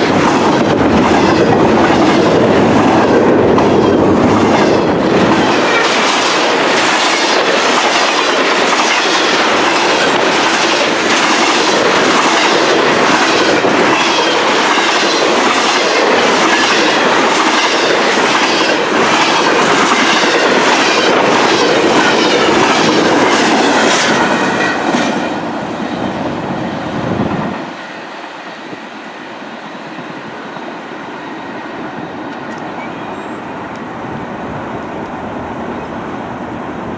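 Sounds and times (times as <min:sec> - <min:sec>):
train cars passing: 0:00.0 - 0:36.9.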